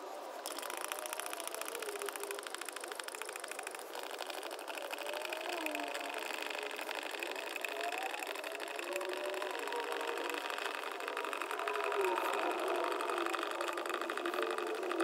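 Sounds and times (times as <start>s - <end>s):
small motor buzzing: 0.4s - 15.0s.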